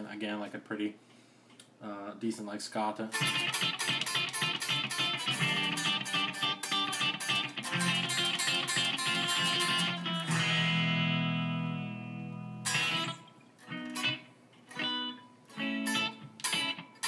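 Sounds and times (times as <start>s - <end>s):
electric guitar notes and chords: 3.1s - 17.0s.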